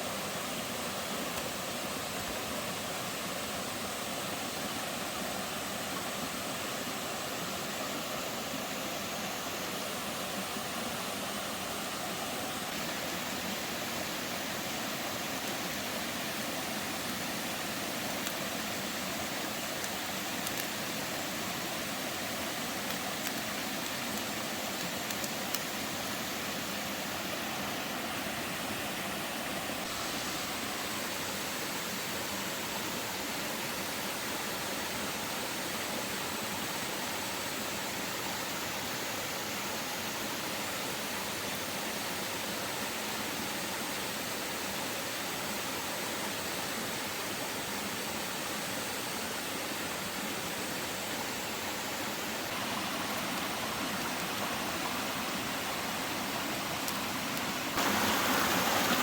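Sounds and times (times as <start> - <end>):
water noise: 0.0 - 59.0.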